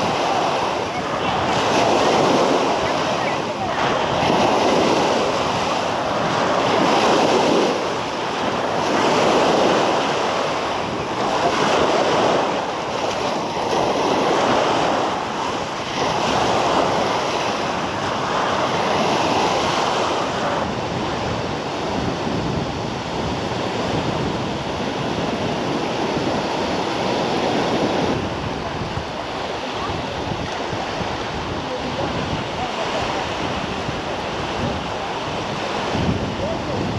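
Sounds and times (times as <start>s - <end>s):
sea waves washing onto beach: 0.0s - 36.9s
wind buffeting microphone: 0.0s - 36.9s.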